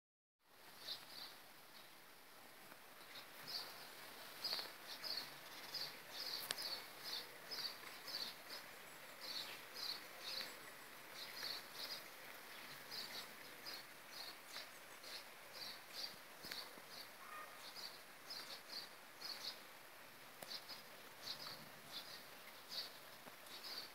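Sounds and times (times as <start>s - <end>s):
rain hissing: 0.5s - 23.9s.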